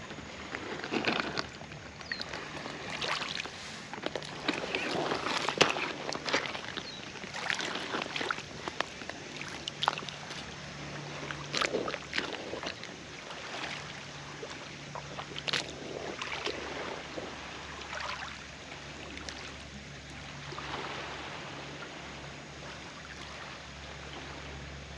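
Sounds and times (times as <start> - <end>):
water splashes: 0.0 - 24.6
water lapping and sloshing: 0.0 - 24.9.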